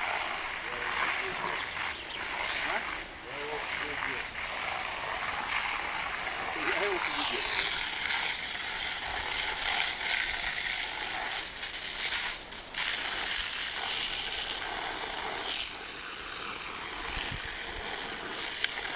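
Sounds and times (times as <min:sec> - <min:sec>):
fire hose spraying water: 0:00.0 - 0:18.9.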